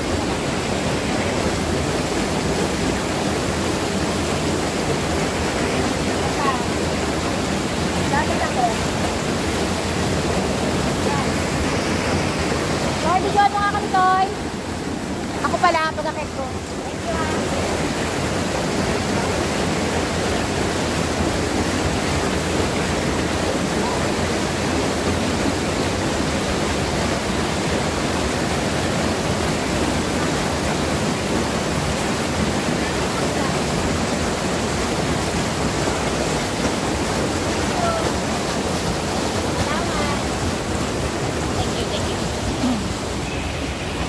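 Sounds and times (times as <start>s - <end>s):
waterfall roar: 0.0s - 44.0s.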